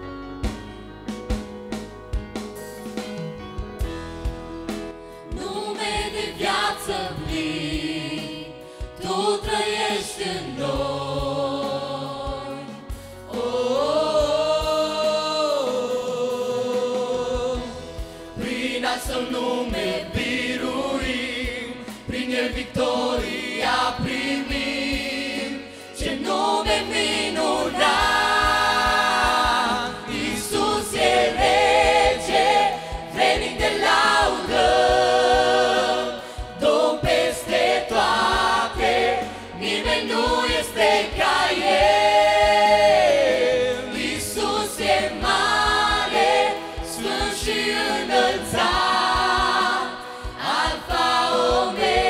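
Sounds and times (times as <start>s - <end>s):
mixed choir singing gospel: 3.8s - 52.0s.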